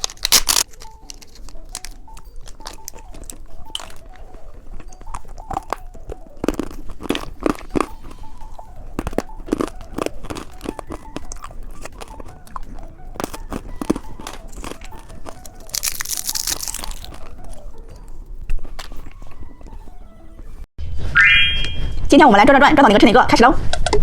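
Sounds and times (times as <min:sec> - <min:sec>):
crunchy snack chewing: 0:00.0 - 0:20.6.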